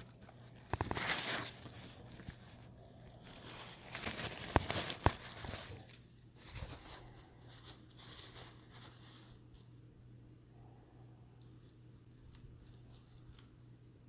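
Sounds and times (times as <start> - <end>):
rustling and crunching of food: 0.0 - 10.2, 11.2 - 14.0.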